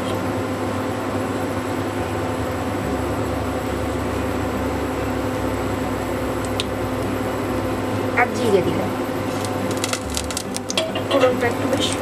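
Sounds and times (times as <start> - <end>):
cooling fan whirring: 0.0 - 12.0
faint high whine: 0.0 - 12.0
low electrical hum: 0.0 - 12.0.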